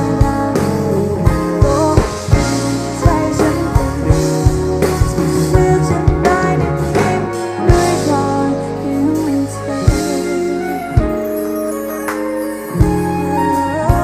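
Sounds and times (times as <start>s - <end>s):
background music with beat: 0.0s - 14.0s.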